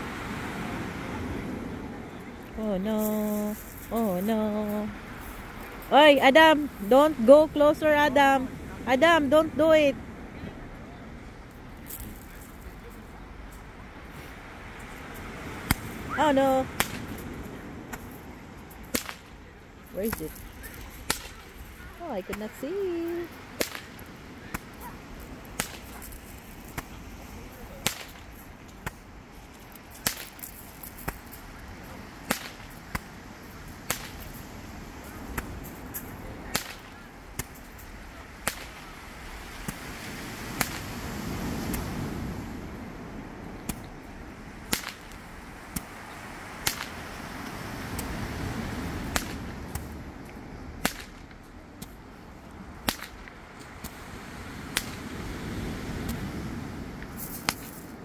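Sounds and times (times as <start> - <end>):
surf on pebble shore: 0.0 - 58.0.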